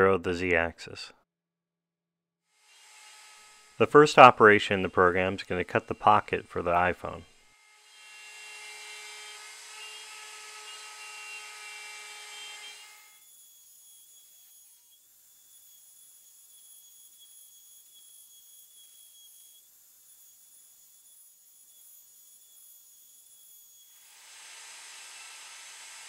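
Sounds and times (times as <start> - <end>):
router spindle whine: 2.8 - 26.0.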